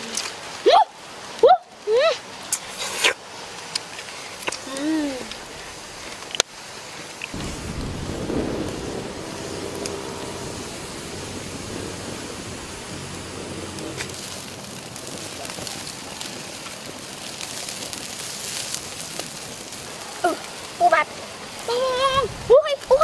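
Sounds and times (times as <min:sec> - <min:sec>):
water boiling in a wok: 0:00.0 - 0:23.0
wood fire crackling: 0:00.0 - 0:23.0.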